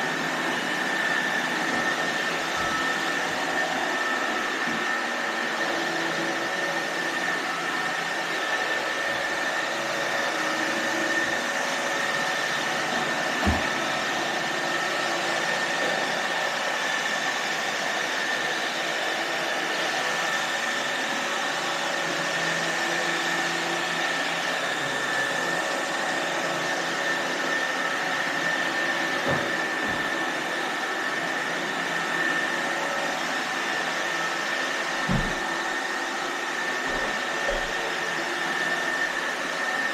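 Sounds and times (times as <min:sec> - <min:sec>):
robot vacuum whirring: 0:00.0 - 0:39.9.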